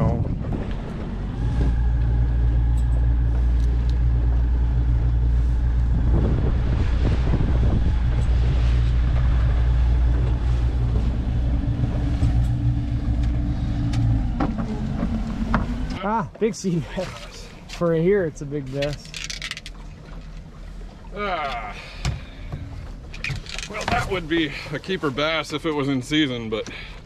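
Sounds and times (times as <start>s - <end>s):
boat motor humming: 0.0s - 27.0s.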